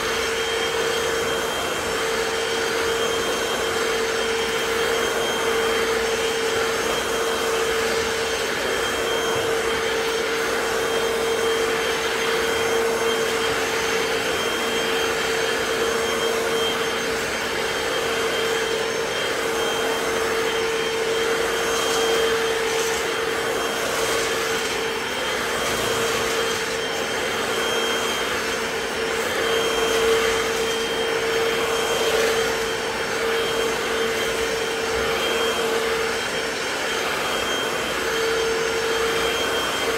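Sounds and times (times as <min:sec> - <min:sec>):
floor cleaner suction motor humming: 0:00.0 - 0:39.9.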